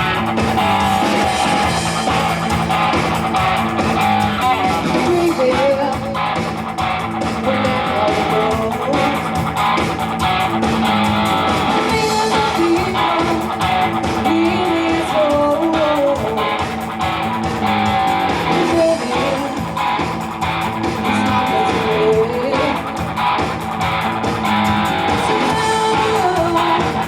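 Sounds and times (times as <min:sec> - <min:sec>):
rock music with electric guitar: 0:00.0 - 0:27.0.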